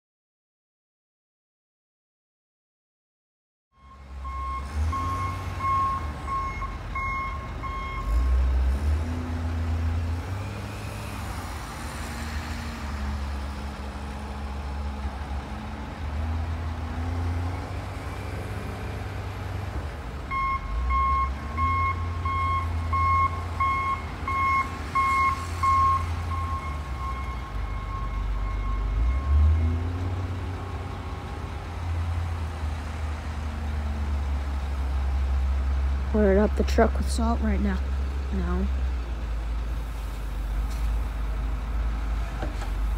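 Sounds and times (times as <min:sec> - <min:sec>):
loader diesel engine revving: 0:04.0 - 0:42.9.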